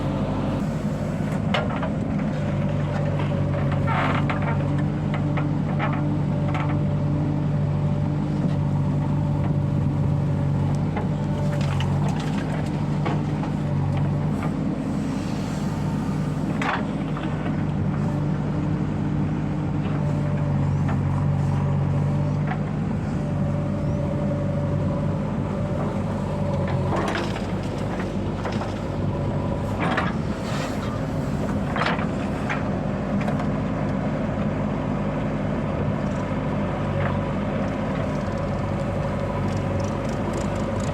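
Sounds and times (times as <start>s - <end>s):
heavy diesel machinery running: 0.0s - 40.9s.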